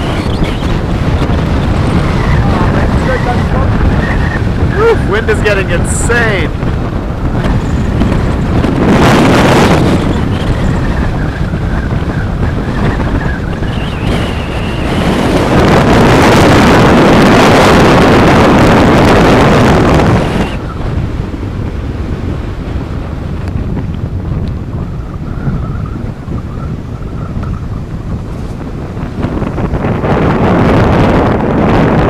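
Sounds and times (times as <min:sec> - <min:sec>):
strong wind buffeting microphone: 0:00.0 - 0:32.0
surf washing: 0:00.0 - 0:32.0.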